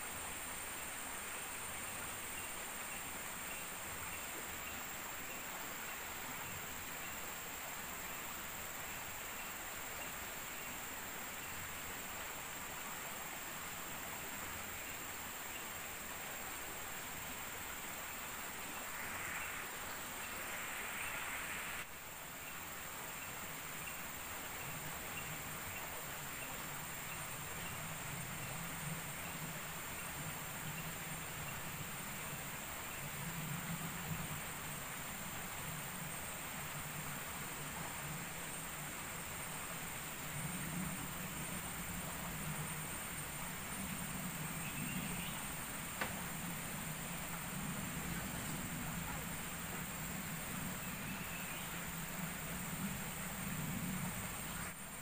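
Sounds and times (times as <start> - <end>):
bright hiss: 0.0 - 55.0
faint low hum: 0.0 - 55.0
insects droning: 0.0 - 55.0.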